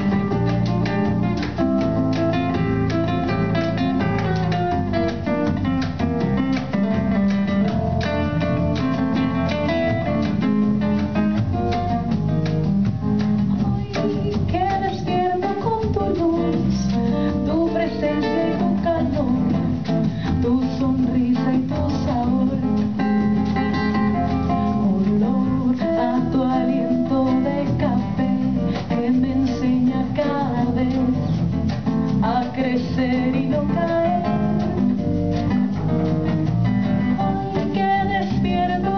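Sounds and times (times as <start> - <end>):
woman singing: 0.0 - 7.3, 13.4 - 35.5, 37.0 - 38.9
hand drum percussion: 0.0 - 38.9.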